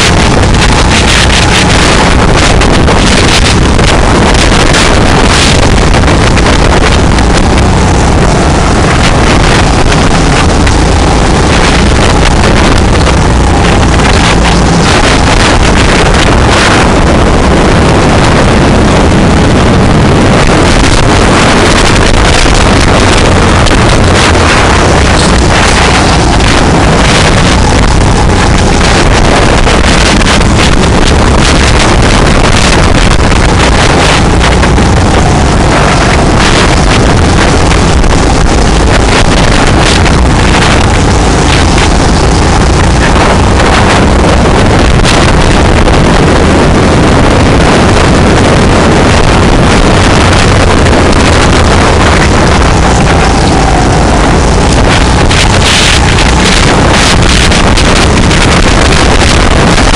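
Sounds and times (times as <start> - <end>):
go-kart engine running: 0.0 - 59.9
wind rushing over microphone: 0.0 - 59.9.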